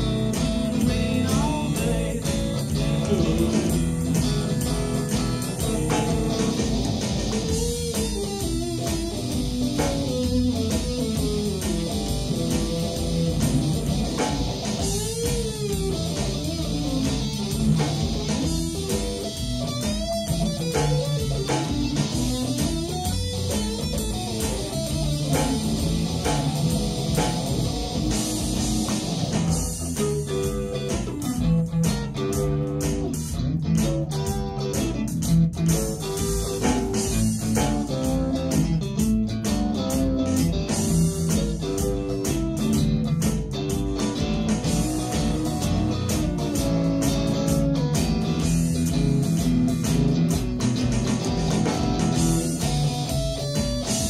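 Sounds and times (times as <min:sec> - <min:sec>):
blues band playing: 0:00.0 - 0:54.0
electric guitar lead: 0:00.0 - 0:54.0.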